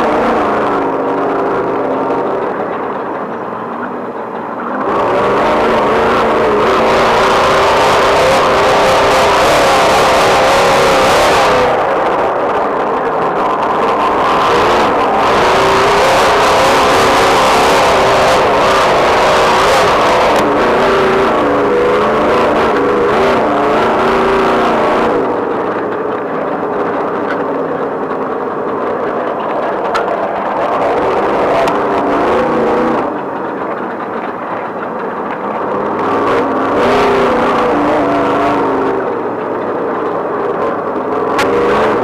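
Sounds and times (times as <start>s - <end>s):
off-road vehicle engine revving: 0.0s - 42.0s
road and wind noise: 0.0s - 42.0s.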